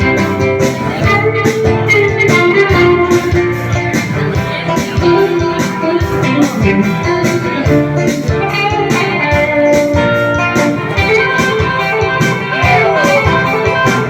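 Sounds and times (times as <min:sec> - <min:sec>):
guitar playing: 0:00.0 - 0:14.0
steady beat: 0:00.0 - 0:14.0.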